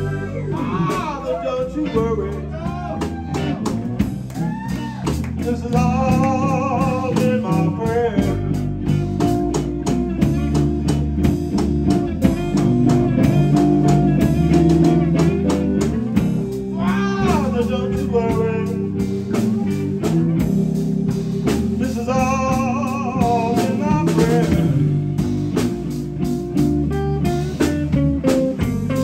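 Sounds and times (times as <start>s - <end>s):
drum kit beat: 0.0s - 29.0s
electric bass: 0.0s - 29.0s
electric guitar lead: 0.0s - 29.0s.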